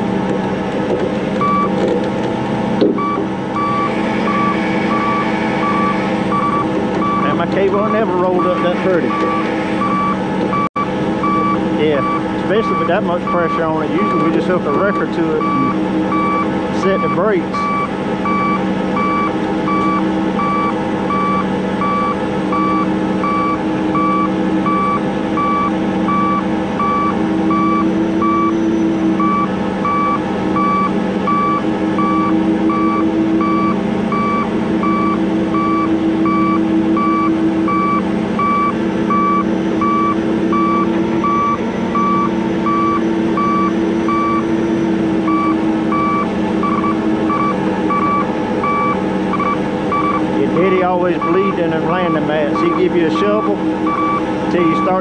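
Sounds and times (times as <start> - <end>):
diesel engine under load: 0.0 - 55.0
backup alarm beeping: 1.4 - 1.8, 2.9 - 55.0.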